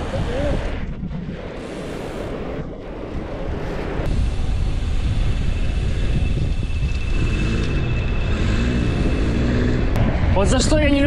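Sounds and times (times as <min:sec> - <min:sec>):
road and tyre rumble: 0:00.0 - 0:11.0
wind buffeting microphone: 0:00.0 - 0:11.0.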